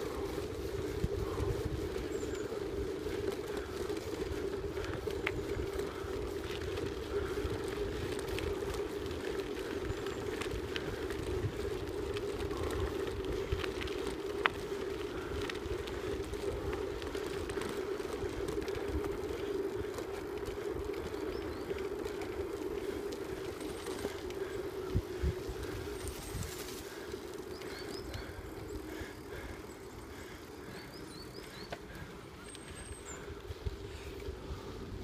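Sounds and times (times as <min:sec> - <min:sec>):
vehicle rolling on gravel: 0:00.0 - 0:35.0.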